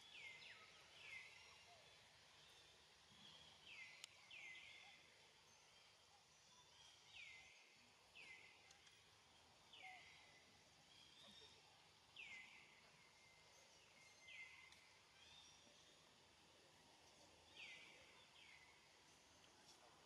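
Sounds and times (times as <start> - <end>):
faint forest ambience: 0.0 - 20.0.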